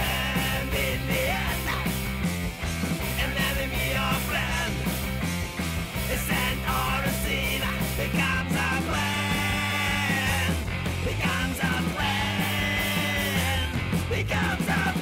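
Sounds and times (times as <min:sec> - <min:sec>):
rock song with vocals: 0:00.0 - 0:15.0.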